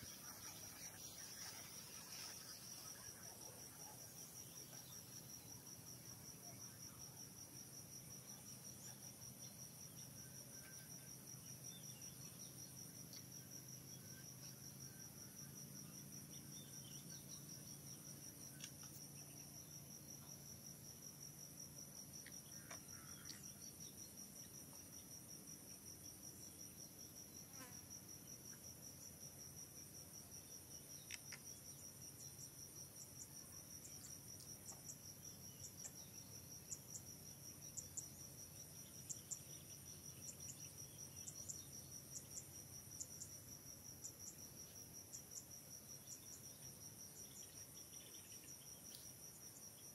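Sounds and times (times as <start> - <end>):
insects chirring: 0.0 - 49.9
sharp insect chirp: 0.0 - 49.9.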